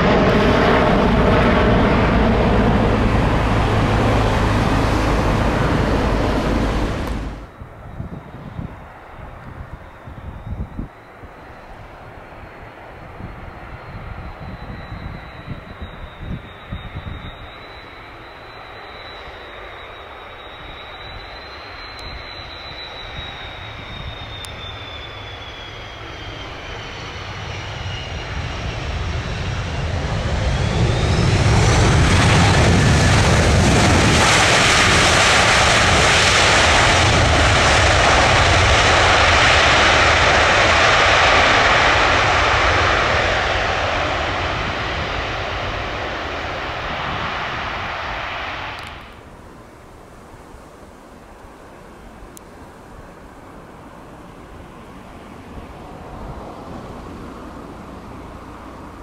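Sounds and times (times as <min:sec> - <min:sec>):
jet plane passing: 0:00.0 - 0:59.0.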